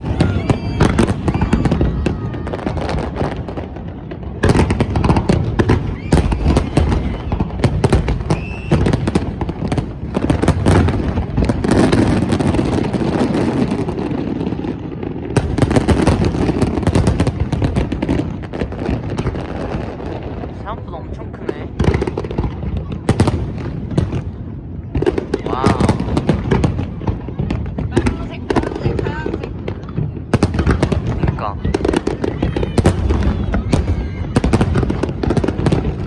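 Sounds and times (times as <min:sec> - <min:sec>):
fireworks bangs and crackling: 0:00.0 - 0:36.0.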